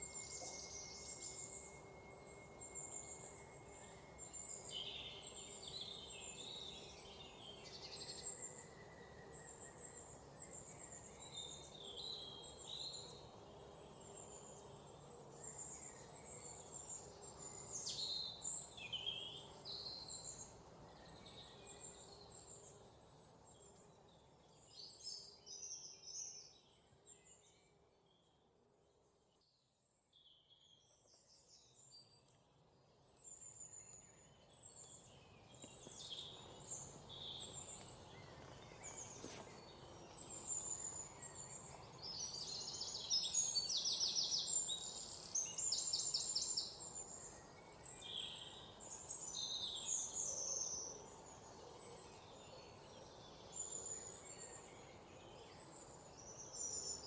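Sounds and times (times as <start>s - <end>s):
songbirds chirping and whistling: 0.0s - 28.3s, 33.0s - 57.0s
outdoor background hiss: 0.0s - 57.0s.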